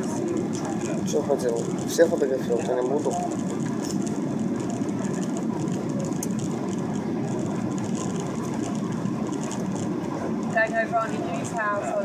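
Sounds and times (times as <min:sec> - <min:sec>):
airliner engines: 0:00.0 - 0:12.0.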